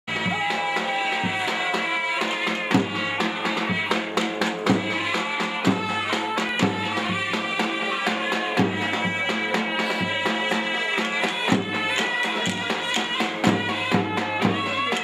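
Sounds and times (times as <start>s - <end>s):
heavy drum beats: 0.1s - 15.0s
shrill reed melody: 0.2s - 15.0s.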